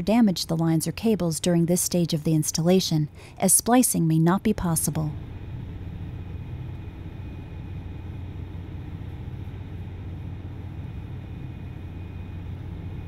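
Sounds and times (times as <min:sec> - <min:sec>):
low rumble of machinery: 0:00.0 - 0:13.0.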